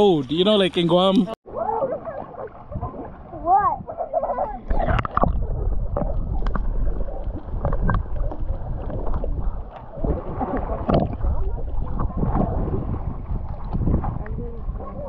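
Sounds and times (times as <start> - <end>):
sea water sloshing and splashing: 1.4 - 15.0.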